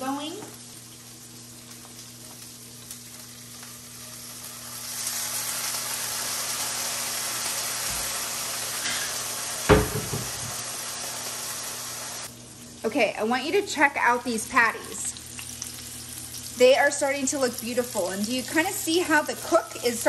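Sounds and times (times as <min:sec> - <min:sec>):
green beans sizzling in pan: 0:00.0 - 0:20.0.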